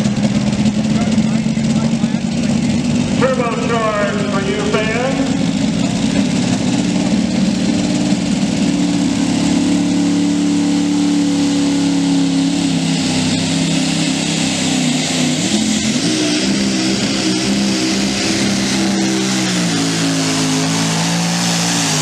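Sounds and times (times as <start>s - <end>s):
pulling truck engine revving: 0.0s - 22.0s.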